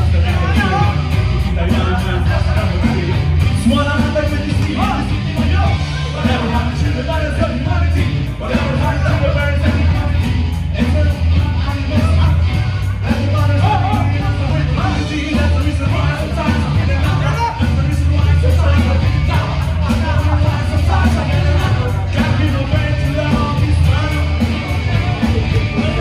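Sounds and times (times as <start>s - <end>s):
drums: 0.0s - 26.0s
electric guitars: 0.0s - 26.0s
heavy bass line: 0.0s - 26.0s
person singing: 0.0s - 26.0s.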